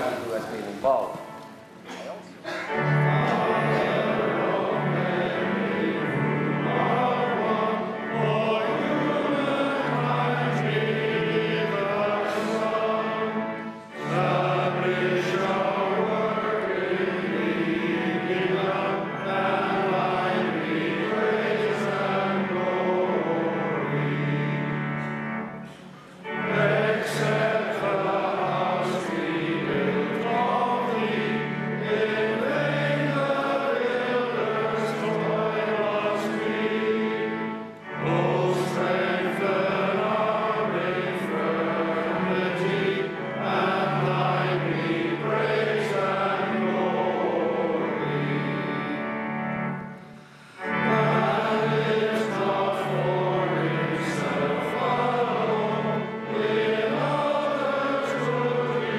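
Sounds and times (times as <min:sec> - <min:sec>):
men singing a hymn: 0:02.5 - 0:58.9.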